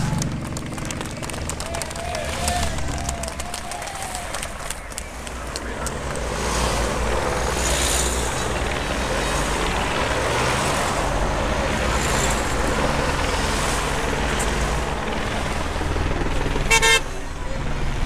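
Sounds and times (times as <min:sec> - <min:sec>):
cars passing close by: 0:00.0 - 0:18.0.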